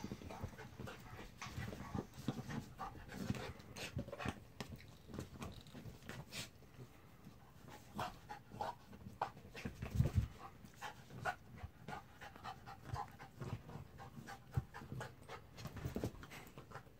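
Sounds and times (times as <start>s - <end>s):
dog panting: 0.0s - 16.9s.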